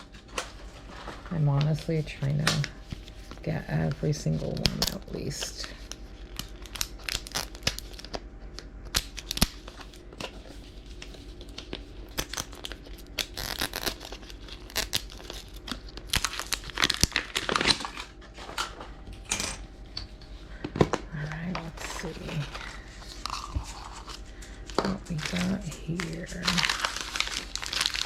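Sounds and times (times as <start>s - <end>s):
plastic packaging crinkling: 0.0s - 19.0s, 20.8s - 28.0s.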